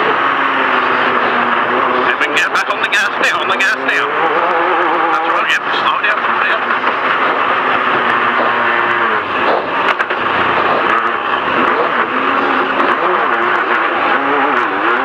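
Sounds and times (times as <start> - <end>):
race car engine revving: 0.0 - 15.0
wind and tyre noise: 0.0 - 15.0.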